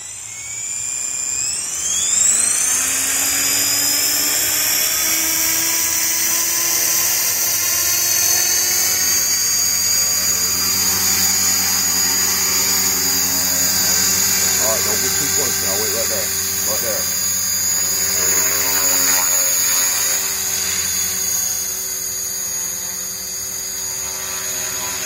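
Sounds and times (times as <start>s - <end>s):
rotor hum: 0.0s - 24.3s
electric motor whine: 0.0s - 25.0s.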